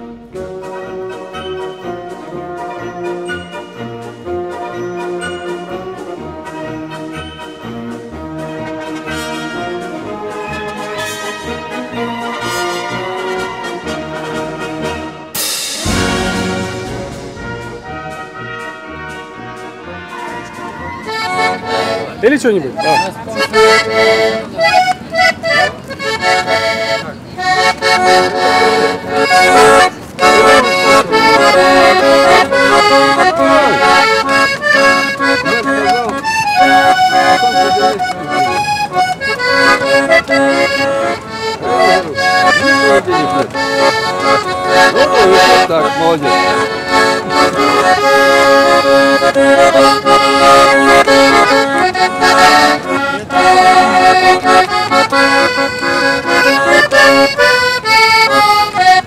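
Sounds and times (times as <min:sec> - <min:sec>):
button accordion playing folk tune: 0:00.0 - 0:59.0.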